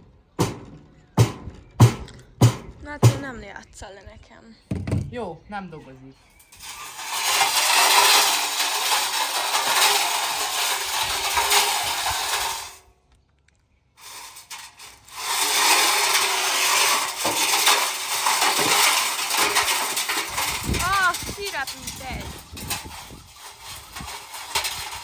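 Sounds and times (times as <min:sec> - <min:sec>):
bricks grinding in washing machine drum: 0:00.4 - 0:03.3, 0:06.5 - 0:12.8, 0:14.0 - 0:25.0.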